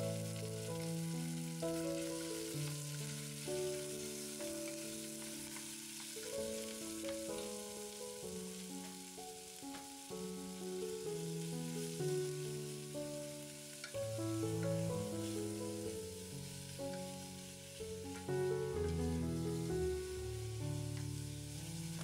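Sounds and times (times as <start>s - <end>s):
background music with held notes: 0.0s - 22.0s
beef sizzling in a pot: 0.0s - 22.0s.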